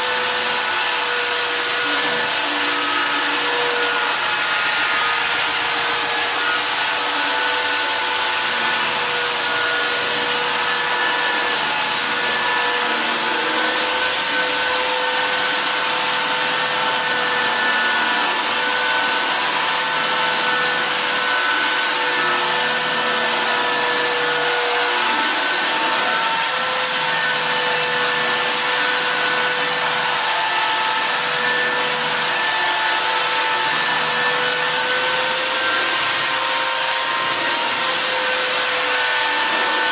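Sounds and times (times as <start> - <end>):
electric sander on wooden floor: 0.0 - 39.9.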